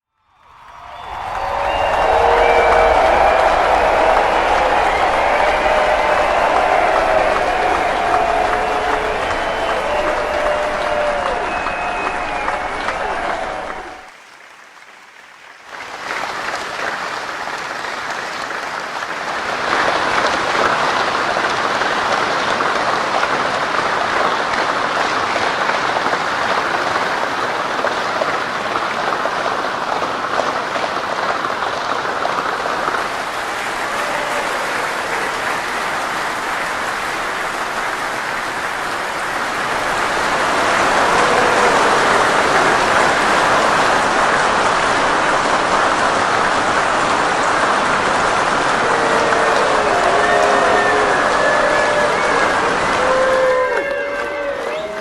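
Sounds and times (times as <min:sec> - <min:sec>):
large crowd applauding: 0:00.2 - 0:55.0.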